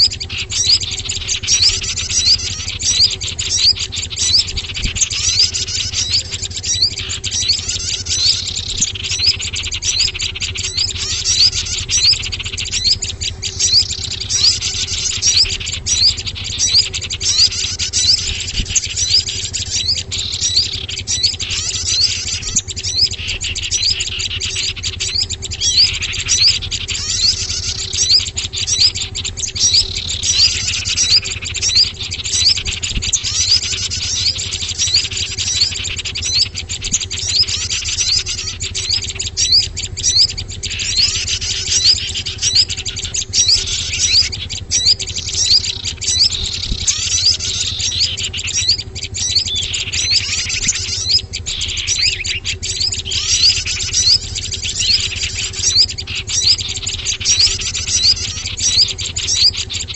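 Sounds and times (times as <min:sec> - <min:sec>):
small songbirds chirping: 0:00.0 - 0:59.9
steady low hum: 0:00.0 - 0:59.9.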